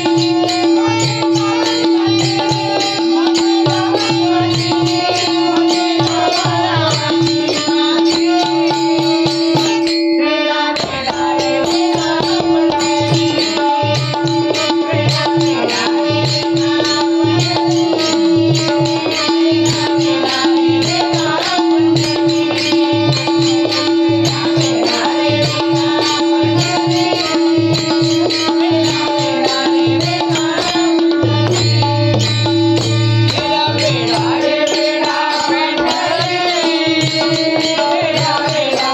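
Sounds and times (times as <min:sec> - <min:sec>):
devotional music: 0:00.0 - 0:38.9
hand-drum beats: 0:00.0 - 0:38.9.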